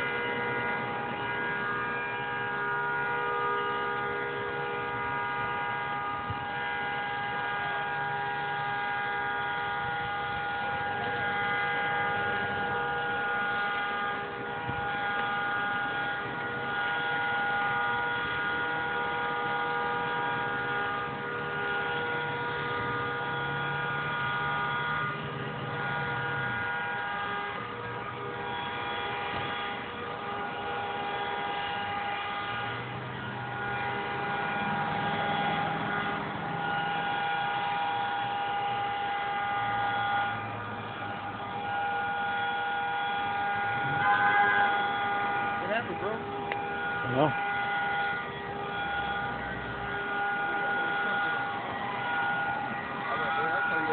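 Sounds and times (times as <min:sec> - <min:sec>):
cars passing on a road: 0:00.0 - 0:53.9.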